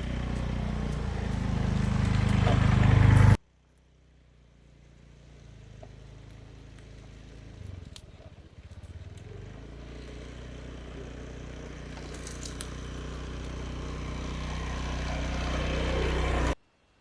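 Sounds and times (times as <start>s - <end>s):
engine humming: 0.0s - 16.6s.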